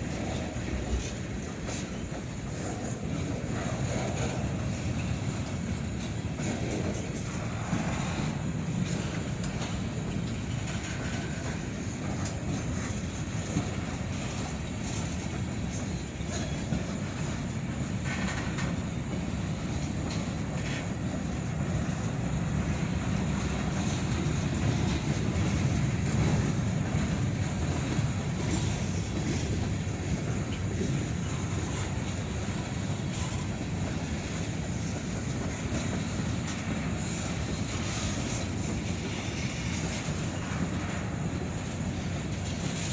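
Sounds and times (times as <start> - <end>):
faint clicks of train wheels: 0.0 - 42.9
freight train wheels rumbling: 0.0 - 42.9.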